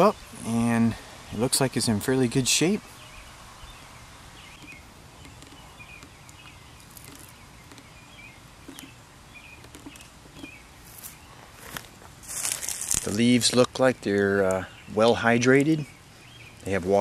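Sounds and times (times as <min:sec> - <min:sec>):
small birds chirping: 0:00.0 - 0:17.0
steady background hiss: 0:00.0 - 0:17.0.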